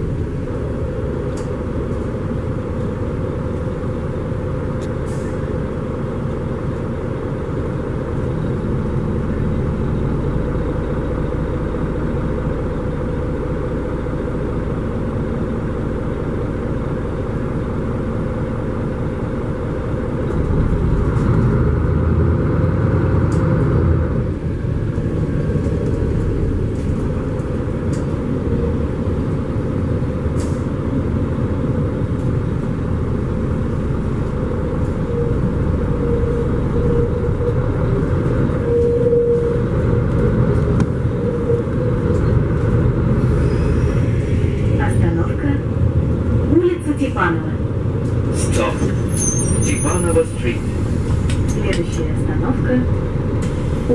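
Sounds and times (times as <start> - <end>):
low rumble: 0.0 - 49.2
bus running noise inside cabin: 0.0 - 53.9.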